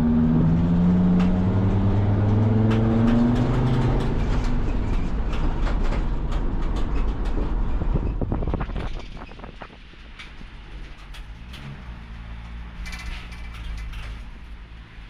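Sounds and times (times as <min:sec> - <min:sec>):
road noise: 0:00.0 - 0:15.0
vehicle engine running: 0:00.0 - 0:15.0
light clicks and rattles: 0:02.3 - 0:15.0.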